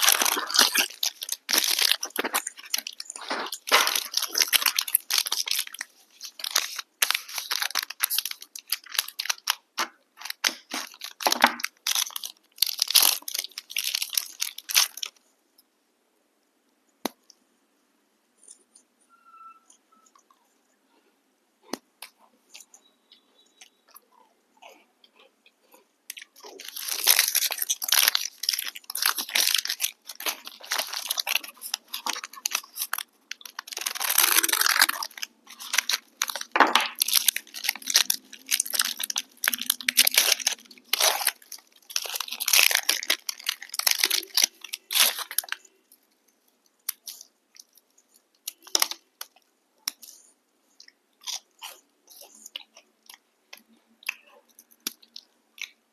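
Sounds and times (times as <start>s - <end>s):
person chewing crunchy snack: 0.0s - 15.2s, 21.6s - 46.0s, 46.8s - 55.9s.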